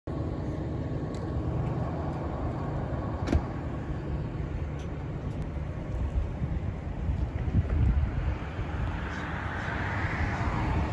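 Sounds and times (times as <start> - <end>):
vehicle engine idling: 0.1 - 9.8.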